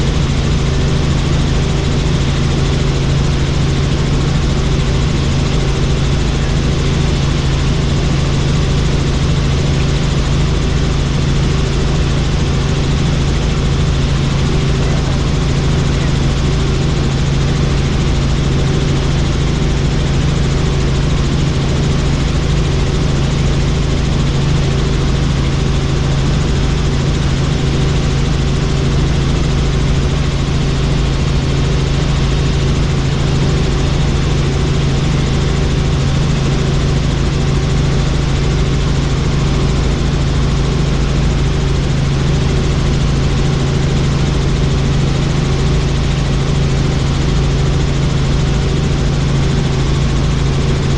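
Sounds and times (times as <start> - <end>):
helicopter drone: 0.0 - 50.9.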